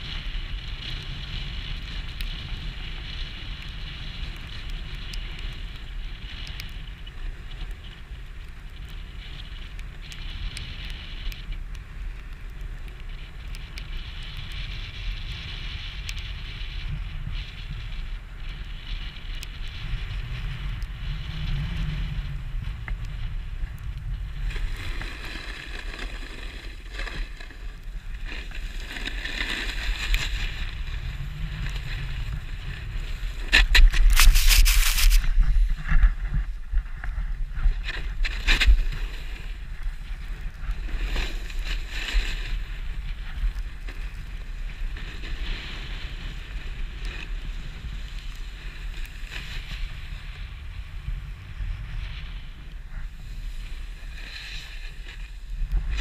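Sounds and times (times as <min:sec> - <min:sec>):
skis scraping over snow: 0:00.0 - 0:56.0
wind noise on microphone: 0:00.0 - 0:56.0.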